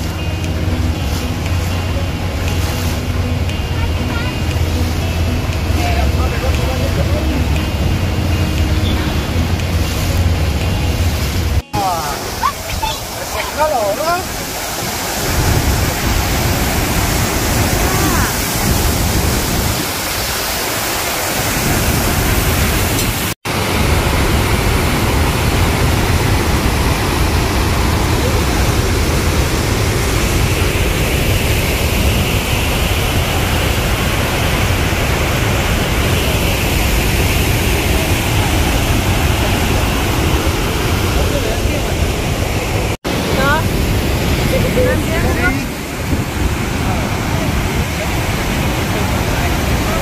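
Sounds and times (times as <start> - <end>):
waterfall roaring: 0.0 - 50.0.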